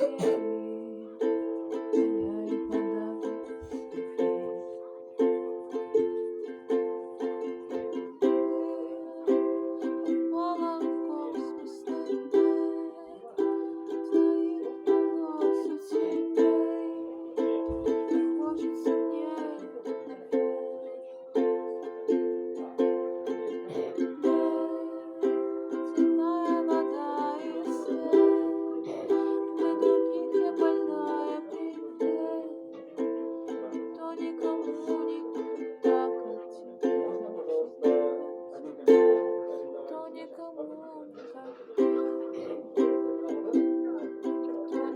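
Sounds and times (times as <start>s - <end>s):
ukulele strumming chords: 0.0s - 44.9s.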